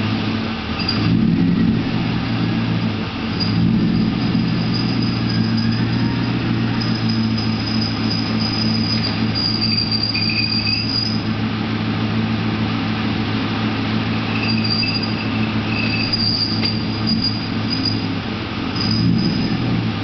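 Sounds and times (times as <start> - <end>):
car engine running: 0.0 - 20.0
high-pitched clutch screech: 0.7 - 11.4, 13.6 - 20.0.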